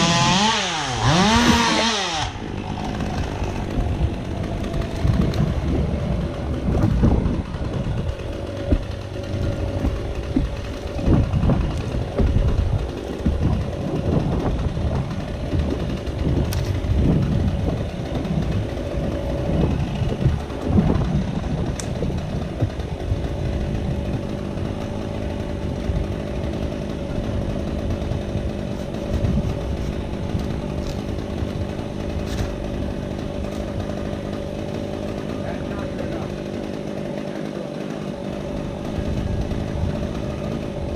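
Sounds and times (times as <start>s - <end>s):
wind buffeting microphone: 0.0s - 36.2s, 38.3s - 40.9s
chainsaw running: 0.0s - 40.9s.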